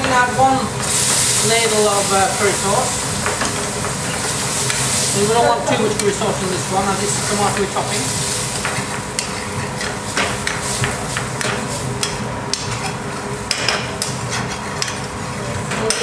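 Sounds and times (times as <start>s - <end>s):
sauce frying hiss: 0.0s - 15.4s.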